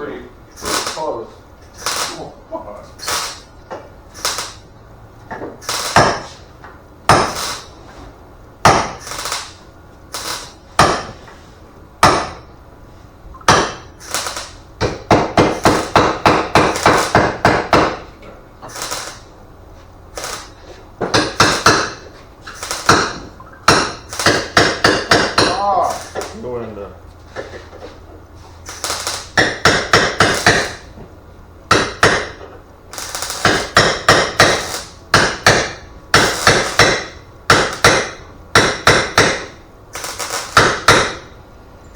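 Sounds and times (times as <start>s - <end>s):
hammer blows: 0.5s - 2.2s, 3.0s - 11.4s, 12.0s - 12.6s, 13.4s - 19.3s, 20.1s - 41.4s.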